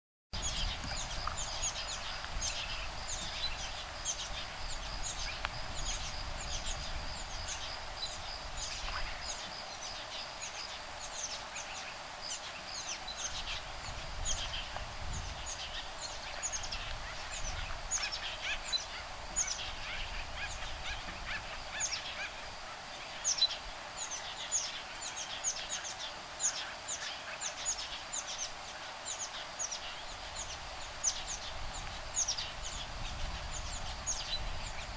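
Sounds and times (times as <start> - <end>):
high insect drone: 0.4 - 34.9
low rumble of breeze: 0.4 - 34.9
woodpeckers calling: 0.5 - 34.9.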